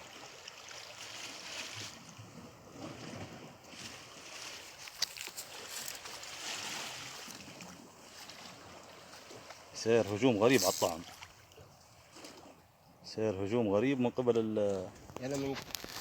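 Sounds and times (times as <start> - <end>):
sea and wind hiss: 0.0 - 16.0.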